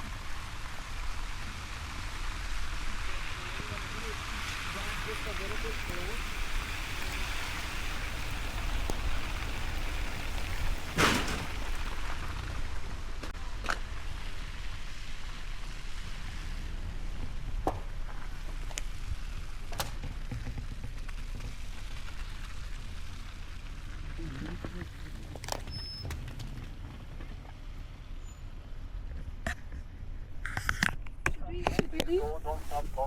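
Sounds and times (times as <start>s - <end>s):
hiss of precipitation on car: 0.0s - 28.4s
tyre and road rumble: 0.0s - 33.0s.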